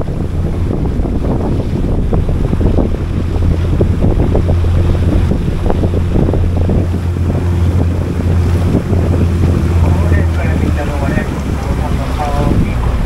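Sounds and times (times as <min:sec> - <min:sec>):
boat engine humming: 0:00.0 - 0:13.0
wind buffeting microphone: 0:00.0 - 0:13.0.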